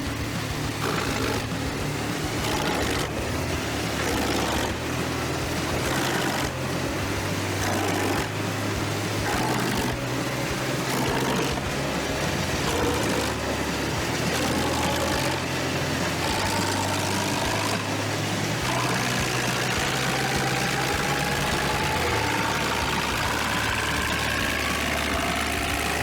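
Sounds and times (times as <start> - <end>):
wood chipper engine drone: 0.0 - 26.0
wood chipping and rushing: 0.0 - 26.0.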